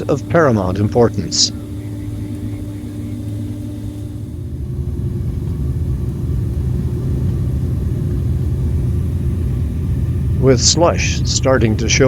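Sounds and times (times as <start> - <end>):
faint steady hum: 0.0 - 12.0
jet airliner cabin engine rumble: 0.0 - 12.0.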